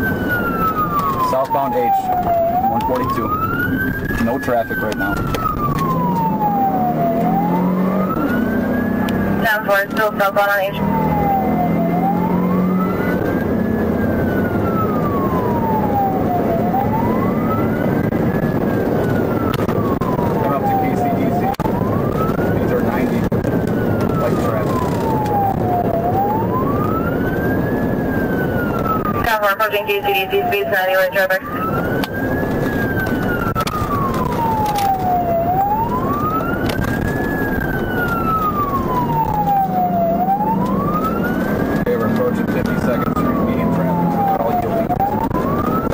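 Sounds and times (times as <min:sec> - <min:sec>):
car engine and tyre noise: 0:00.0 - 0:45.9
police siren wailing: 0:00.0 - 0:45.9.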